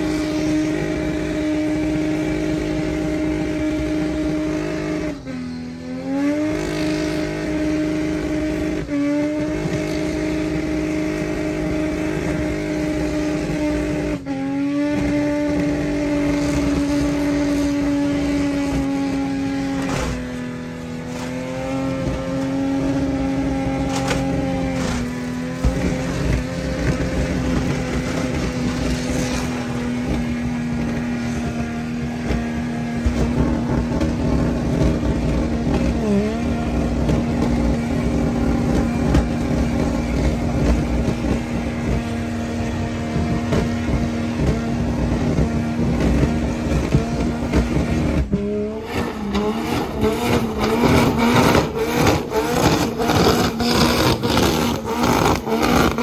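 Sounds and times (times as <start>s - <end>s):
car engine revving high: 0.0s - 56.0s
engine crackling: 0.0s - 56.0s.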